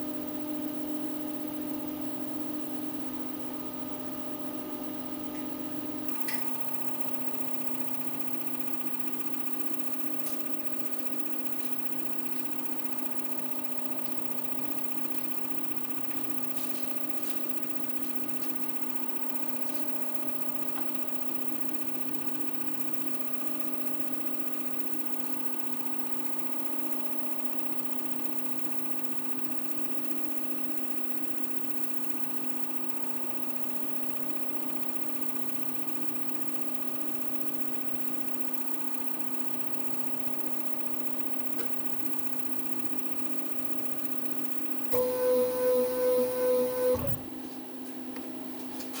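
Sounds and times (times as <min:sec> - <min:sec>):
milling machine motors humming: 0:00.0 - 0:47.4.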